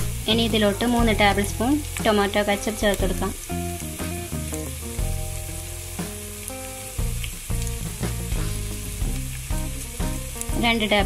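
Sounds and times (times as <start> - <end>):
background instrumental music: 0.0 - 11.0
vegetables sizzling in oil: 0.0 - 11.0.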